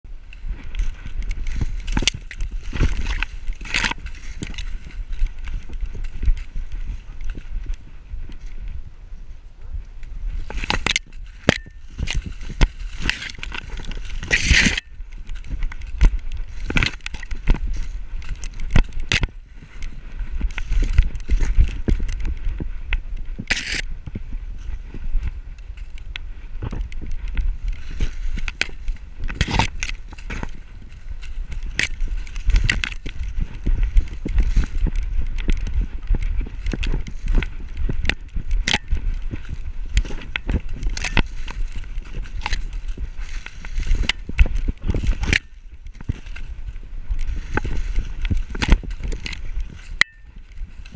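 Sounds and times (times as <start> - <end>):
camera rumble: 0.0 - 50.9
crunching snow and rustling stalks: 0.0 - 50.9.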